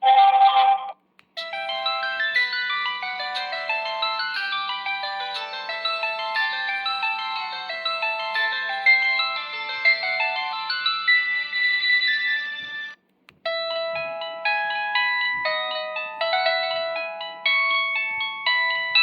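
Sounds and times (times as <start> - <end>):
phone ringtone: 0.0 - 19.0
phone ringtone melody: 0.0 - 19.0.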